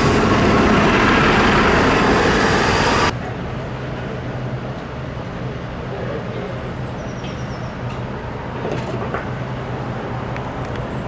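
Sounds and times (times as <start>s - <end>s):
heavy machinery engines droning: 0.0s - 11.0s.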